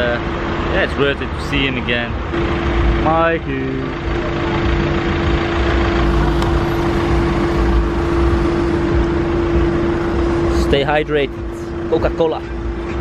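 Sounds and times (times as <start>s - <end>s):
road traffic noise: 0.0s - 13.0s
vehicle engine humming: 0.0s - 13.0s.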